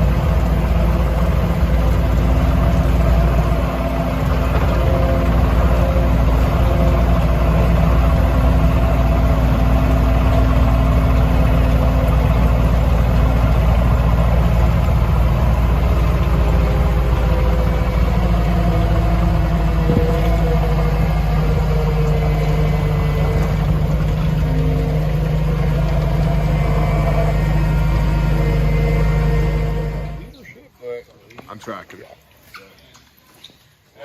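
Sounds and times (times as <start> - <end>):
vehicle engine running: 0.0 - 30.4.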